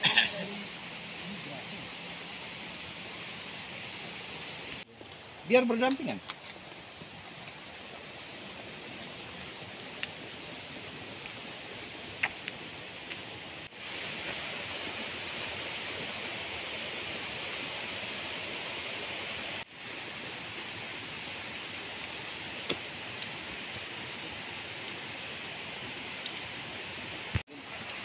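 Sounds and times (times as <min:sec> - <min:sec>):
outdoor ambient hiss: 0:00.0 - 0:28.0.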